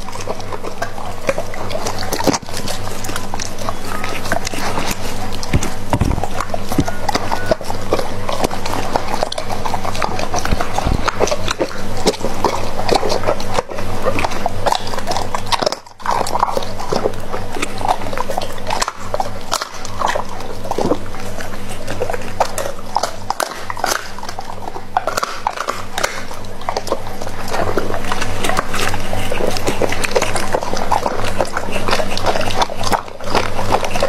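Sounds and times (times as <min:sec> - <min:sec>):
dog chewing wetly: 0:00.0 - 0:34.0
teeth clicking: 0:00.0 - 0:34.0.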